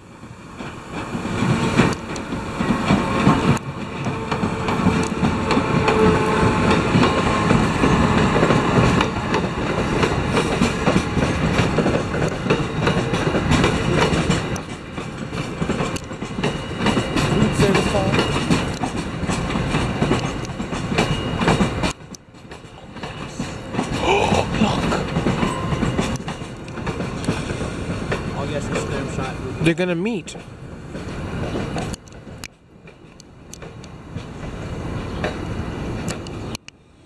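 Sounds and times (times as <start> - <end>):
train rumbling past: 0.0 - 37.0
wheels clicking over rails: 0.6 - 36.7.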